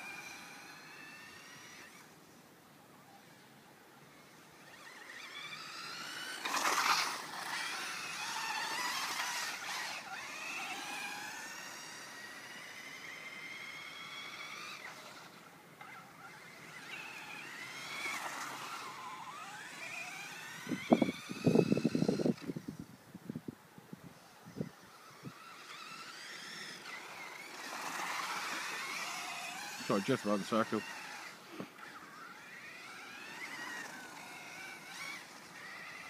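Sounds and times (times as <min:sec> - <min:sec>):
electric motor whining: 0:00.0 - 0:02.4, 0:03.2 - 0:22.9, 0:24.2 - 0:36.0.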